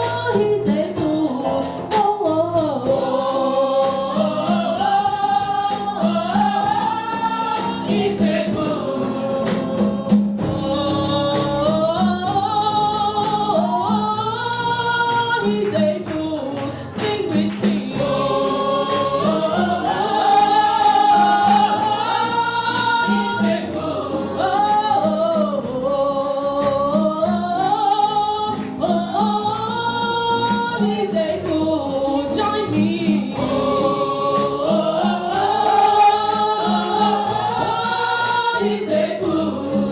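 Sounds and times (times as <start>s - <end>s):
band accompaniment: 0.0s - 39.9s
gospel choir singing: 0.0s - 39.9s.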